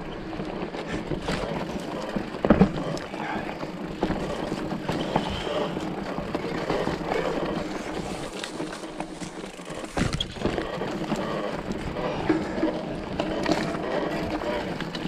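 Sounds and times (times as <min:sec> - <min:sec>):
bike rattling and clicking: 0:00.0 - 0:15.0
bike tyres on dirt: 0:00.0 - 0:15.0.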